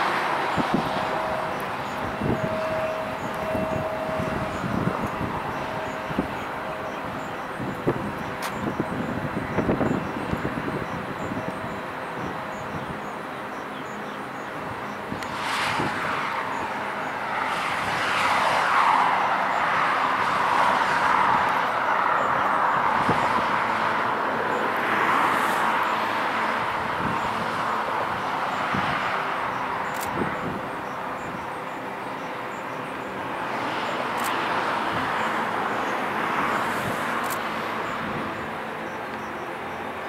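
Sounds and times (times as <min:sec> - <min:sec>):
cars passing: 0:00.0 - 0:40.0
jet airliner rumble and whine: 0:00.0 - 0:40.0.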